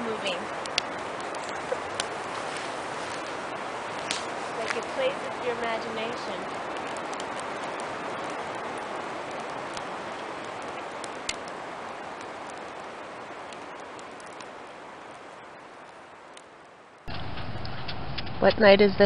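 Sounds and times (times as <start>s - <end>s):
campfire crackling: 0.0s - 18.5s.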